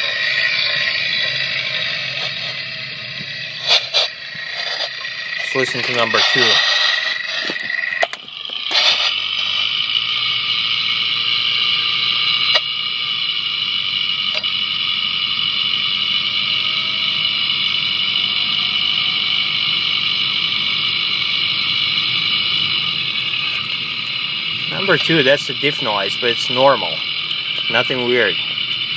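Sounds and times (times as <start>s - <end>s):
differential whirring hiss: 0.0s - 28.9s.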